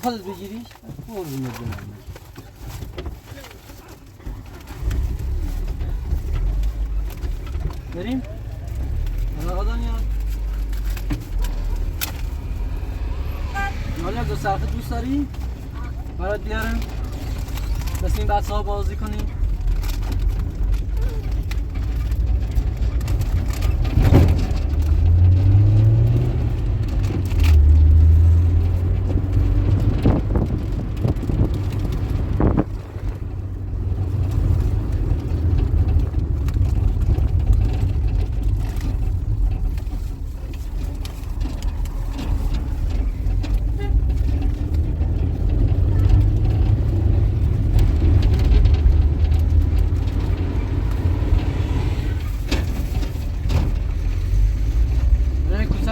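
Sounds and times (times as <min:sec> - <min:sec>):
vehicle engine and road rumble: 0:00.0 - 0:55.9.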